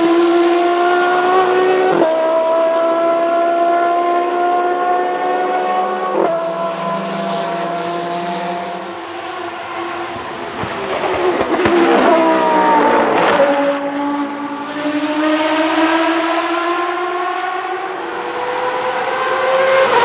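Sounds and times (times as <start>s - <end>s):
race car engine at high revs: 0.0s - 20.0s
race car passing by: 3.7s - 20.0s.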